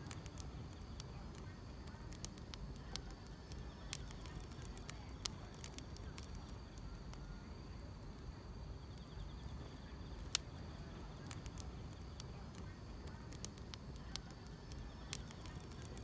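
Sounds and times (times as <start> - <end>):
insects trilling: 0.0 - 16.0
wood fire crackling: 0.0 - 16.0.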